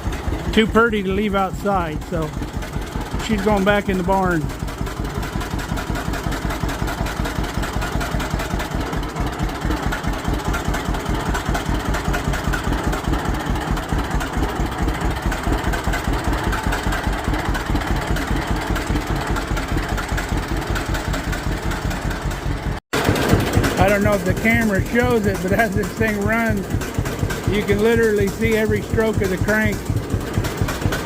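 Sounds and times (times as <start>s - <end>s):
tractor engine putt-putt: 0.0s - 31.0s.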